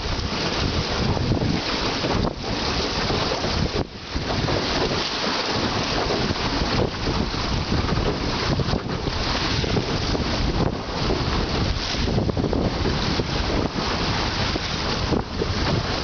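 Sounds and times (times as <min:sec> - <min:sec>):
choppy water splashing on hull: 0:00.0 - 0:16.0
wind buffeting the microphone: 0:00.0 - 0:16.0.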